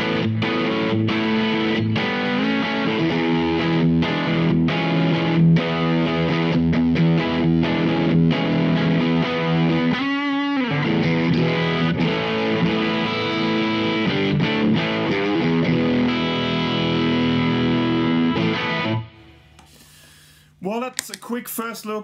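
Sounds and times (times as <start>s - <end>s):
overdriven electric guitar: 0.0s - 20.2s.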